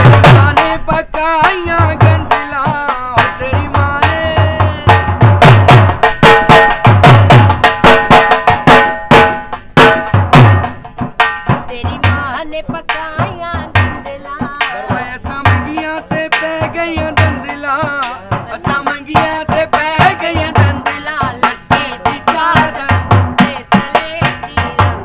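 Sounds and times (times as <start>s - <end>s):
dhol drum played with sticks: 0.0s - 25.0s.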